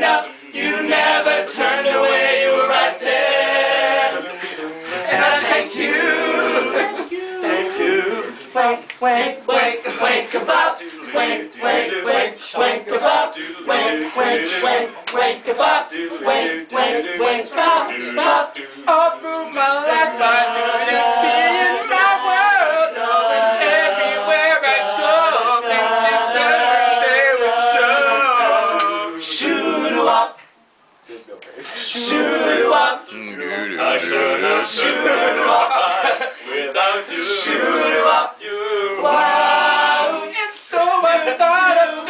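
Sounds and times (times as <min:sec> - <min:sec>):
male voices singing in harmony: 0:00.0 - 0:30.4, 0:31.7 - 0:42.0.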